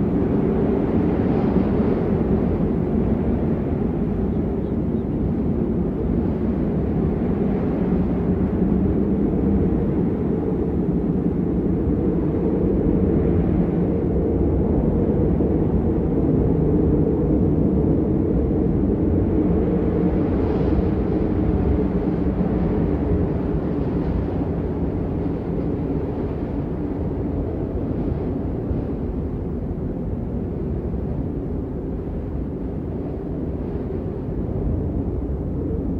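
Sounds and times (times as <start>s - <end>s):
low wind rumble: 0.0s - 35.9s.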